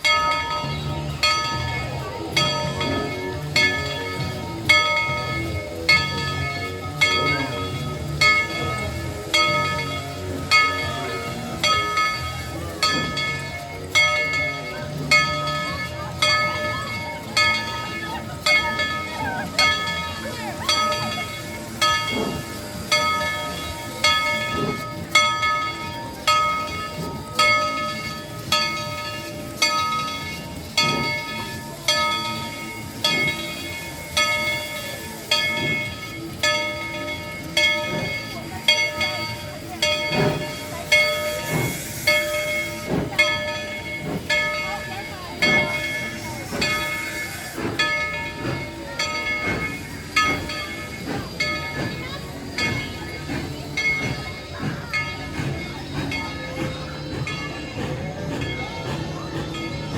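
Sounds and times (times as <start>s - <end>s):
locomotive bell ringing: 0.0s - 59.9s
low train rumble: 0.0s - 59.9s.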